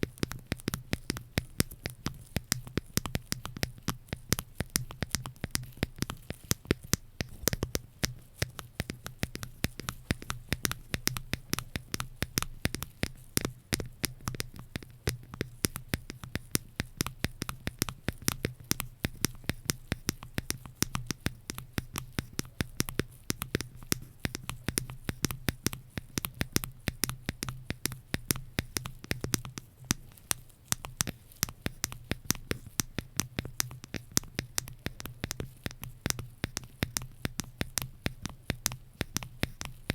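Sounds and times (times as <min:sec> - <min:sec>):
crisp taps and scratches: 0:00.0 - 0:39.9.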